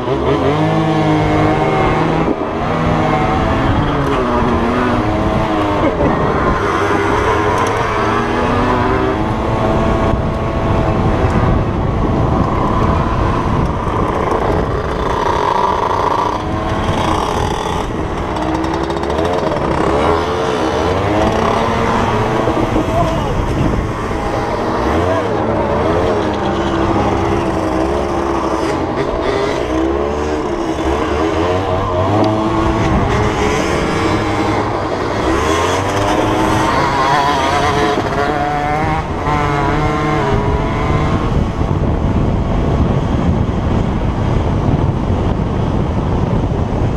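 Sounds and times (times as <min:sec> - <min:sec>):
two-stroke dirt bike engine revving: 0:00.0 - 0:43.4
wind rumble on microphone: 0:00.0 - 0:46.9.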